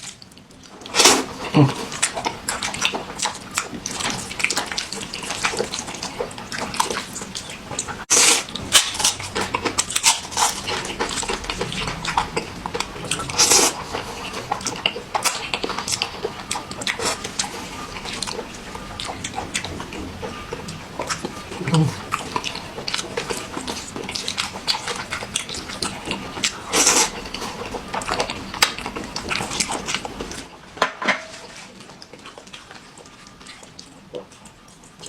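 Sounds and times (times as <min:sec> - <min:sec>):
wet slurping and chewing: 0:00.0 - 0:30.6, 0:31.3 - 0:35.0.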